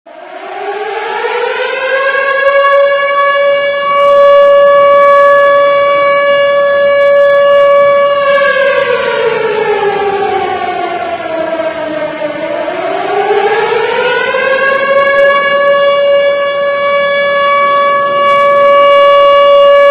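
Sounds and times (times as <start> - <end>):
loud civil defense siren: 0.1 - 19.9.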